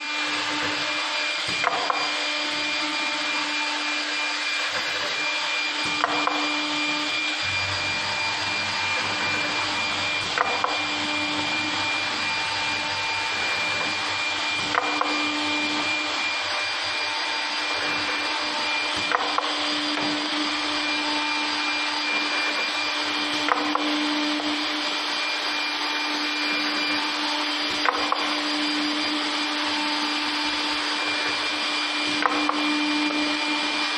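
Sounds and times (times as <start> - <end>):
drilling machine whirring: 0.0 - 33.9.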